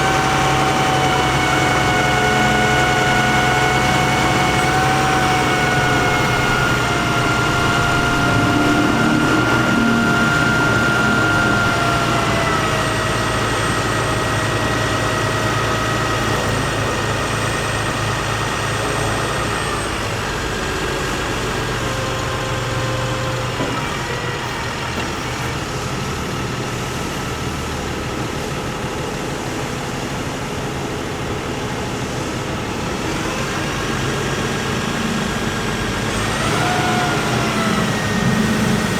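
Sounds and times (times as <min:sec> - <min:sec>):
diesel truck engine running: 0:00.0 - 0:38.9
engine whine: 0:00.0 - 0:38.9.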